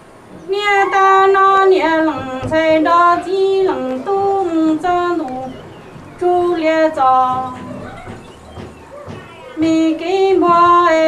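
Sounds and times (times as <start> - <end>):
woman singing unaccompanied: 0.4 - 7.9, 9.5 - 11.0.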